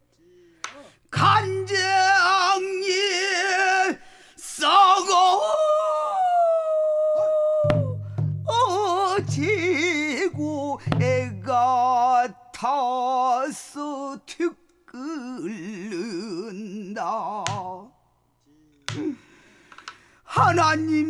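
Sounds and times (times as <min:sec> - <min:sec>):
man singing with wavering vibrato: 0:00.0 - 0:19.2, 0:20.2 - 0:21.0.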